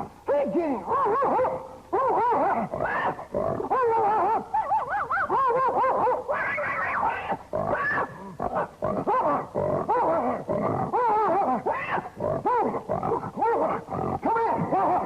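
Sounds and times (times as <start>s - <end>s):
man imitating dogs and hog: 0.2s - 15.0s.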